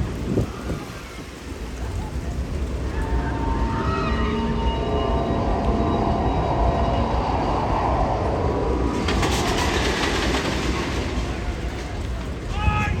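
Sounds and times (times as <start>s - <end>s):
roller coaster wheels rumbling on rail: 0.0s - 13.0s.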